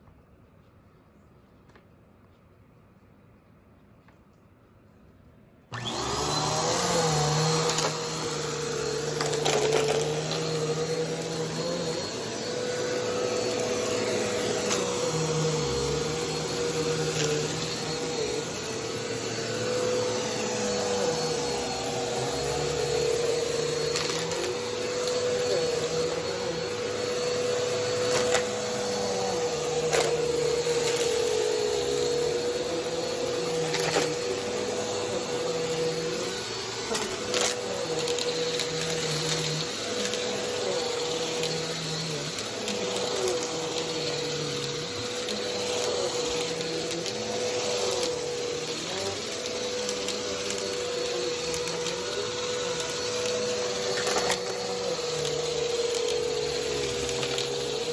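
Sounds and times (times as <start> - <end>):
vacuum cleaner on carpet: 5.7 - 57.9.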